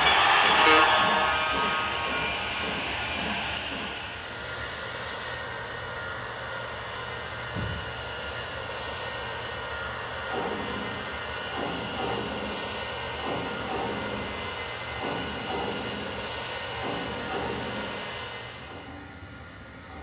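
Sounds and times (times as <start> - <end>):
rhythmic steam chuffing: 0.0 - 20.0.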